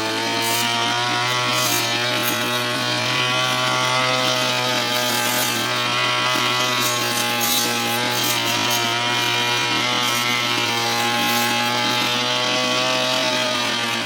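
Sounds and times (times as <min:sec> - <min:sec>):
brush cutter engine cutting grass: 0:00.0 - 0:14.0.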